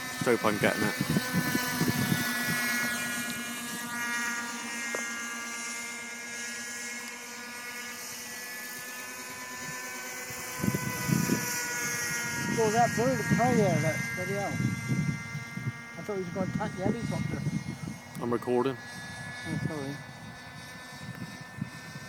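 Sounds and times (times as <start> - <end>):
model helicopter buzzing whine: 0.0 - 22.0.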